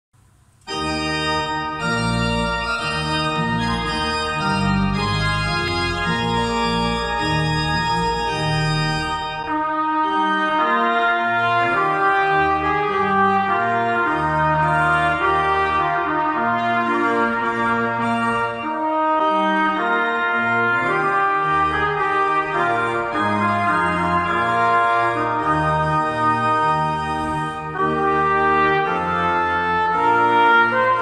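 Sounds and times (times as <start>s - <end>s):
pipe organ chords: 0.6s - 31.0s
trumpet: 0.7s - 31.0s.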